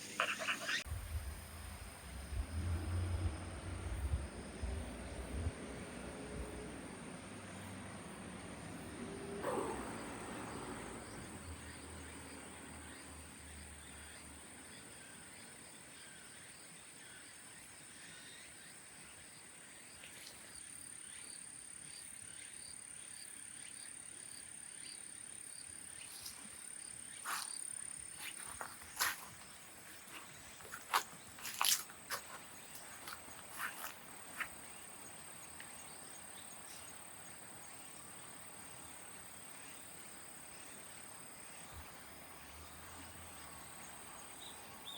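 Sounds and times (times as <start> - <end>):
insects trilling: 0.0 - 6.6, 8.8 - 44.9.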